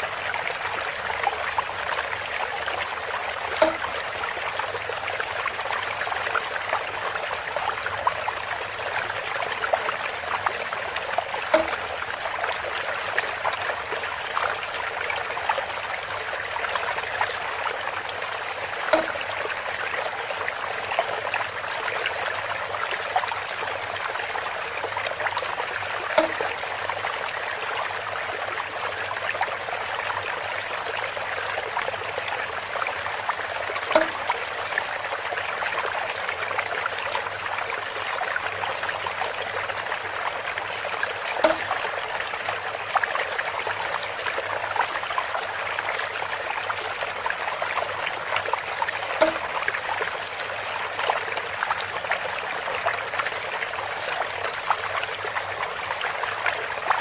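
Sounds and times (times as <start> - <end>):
water trickling through bamboo spout: 0.0 - 57.0.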